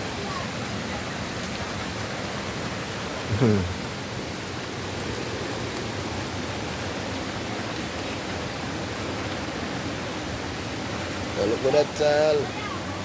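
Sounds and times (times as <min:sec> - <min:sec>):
light rain: 0:00.0 - 0:13.0.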